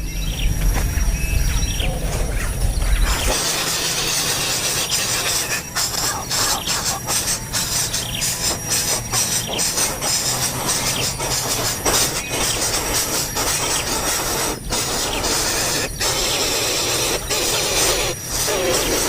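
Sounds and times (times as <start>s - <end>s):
nestling birds begging calls: 0.0s - 19.0s.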